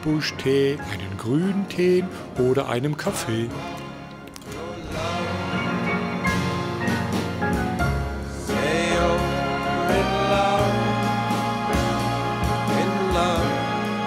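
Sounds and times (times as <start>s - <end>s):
song with sung vocals: 0.0s - 7.4s, 8.2s - 14.0s.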